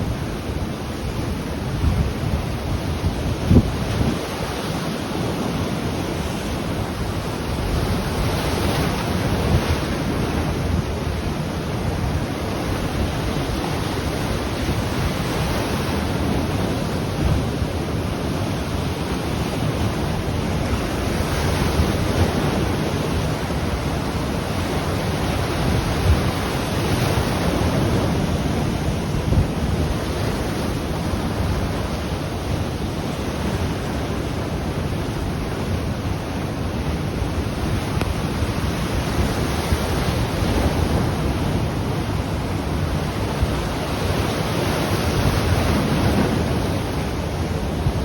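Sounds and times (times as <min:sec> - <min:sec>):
ocean waves breaking on shore: 0:00.0 - 0:48.0
wind buffeting microphone: 0:00.0 - 0:48.0.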